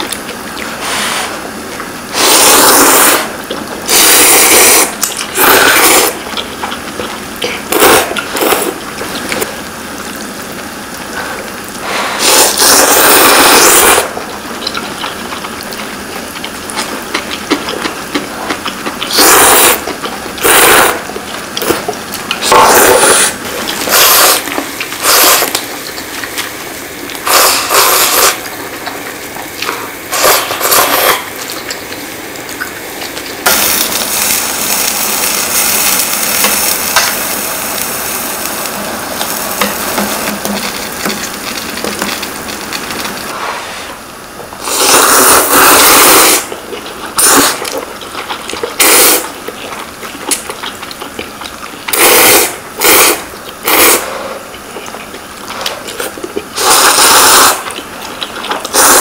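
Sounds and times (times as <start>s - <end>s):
broth boiling in a pot: 0.0s - 59.0s
noodles slurped: 0.1s - 9.5s, 11.1s - 44.0s, 44.6s - 59.0s.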